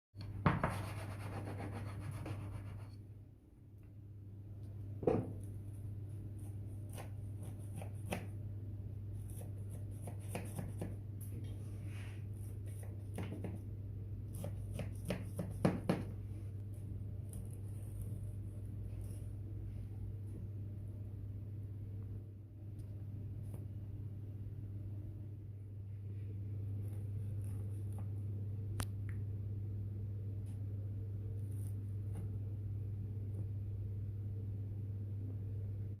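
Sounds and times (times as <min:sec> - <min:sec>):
steady low hum: 0:00.2 - 0:36.0.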